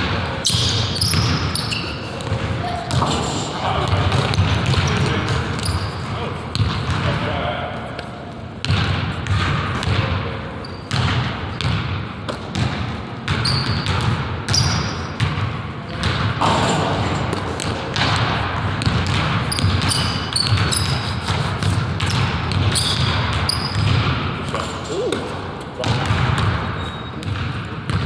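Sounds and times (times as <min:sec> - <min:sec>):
sneaker squeaks: 0:00.3 - 0:07.1, 0:08.1 - 0:18.1, 0:18.8 - 0:28.0
basketball bouncing on wooden floor: 0:00.5 - 0:03.2, 0:03.9 - 0:05.9, 0:06.5 - 0:07.2, 0:08.6 - 0:24.6, 0:25.8 - 0:28.0.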